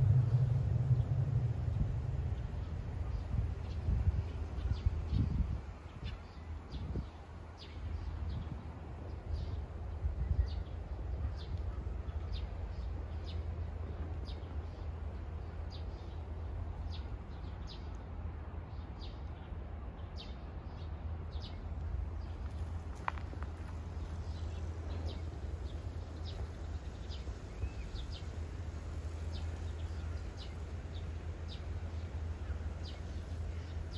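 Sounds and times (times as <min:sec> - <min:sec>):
steady low rumble: 0:00.0 - 0:33.9.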